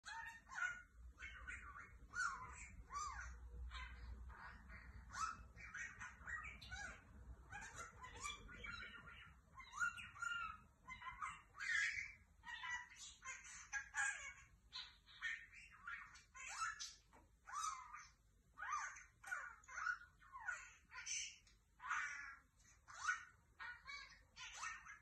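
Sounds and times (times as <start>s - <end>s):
budgerigar chattering and warbling: 0.0s - 25.0s.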